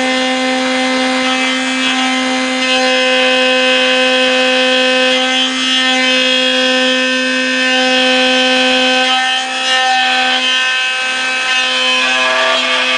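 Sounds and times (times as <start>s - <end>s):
cutter planing wood: 0.0s - 12.9s
router spindle whine: 0.0s - 12.9s.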